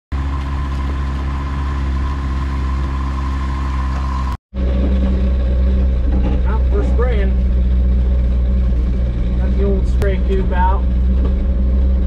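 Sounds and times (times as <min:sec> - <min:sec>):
crop sprayer engine running: 0:00.2 - 0:12.0.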